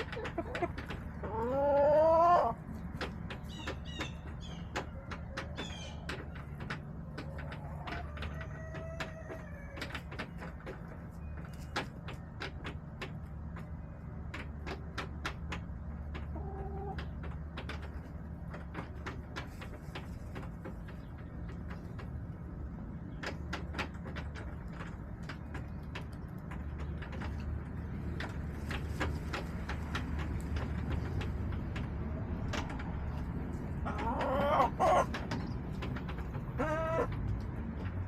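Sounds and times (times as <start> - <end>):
hens clucking softly: 0.0 - 37.9
hens pecking on plastic: 0.0 - 38.0.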